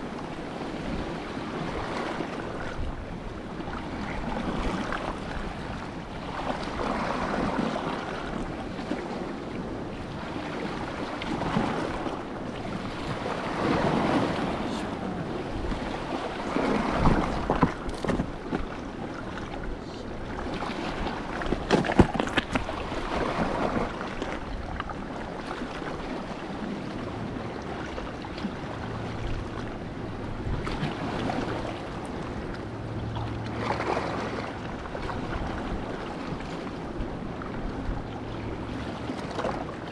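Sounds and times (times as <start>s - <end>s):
sea waves washing in: 0.0s - 39.9s
wind on microphone: 0.0s - 39.9s.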